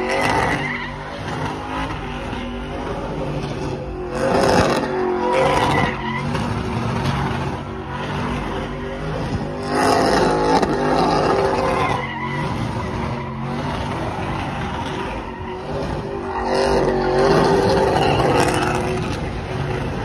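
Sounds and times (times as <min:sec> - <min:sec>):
car engine revving under load: 0:00.0 - 0:20.0
tyres skidding on pavement: 0:00.0 - 0:20.0.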